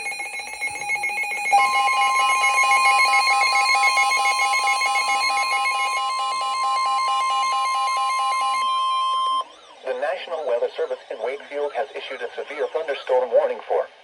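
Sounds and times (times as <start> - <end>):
steady piercing alarm tone: 0.0 - 12.9
rapidly pulsing electronic beeping: 0.0 - 13.9.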